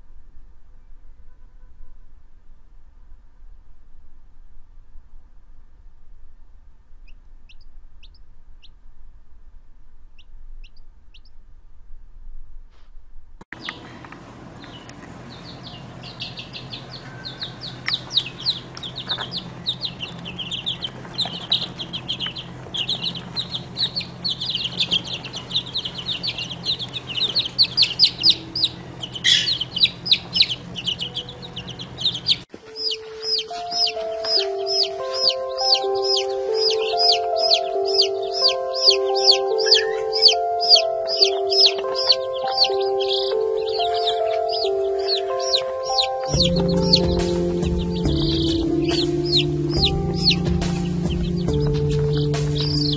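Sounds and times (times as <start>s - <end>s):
low steady hum: 0.0s - 52.9s
baby chicks peeping: 7.0s - 9.1s, 10.1s - 11.4s, 13.5s - 52.9s.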